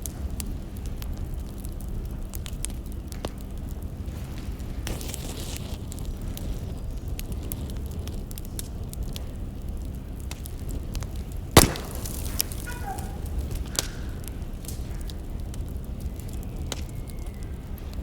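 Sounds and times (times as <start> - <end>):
fire snapping: 0.0 - 18.0
wood fire crackling: 0.0 - 18.0.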